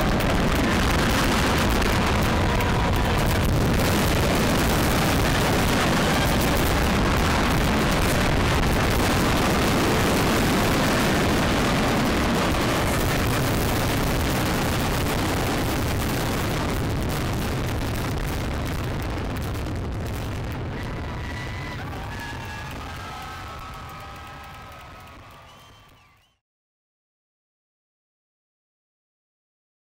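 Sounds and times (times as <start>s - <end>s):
fireworks booming: 0.0s - 25.7s.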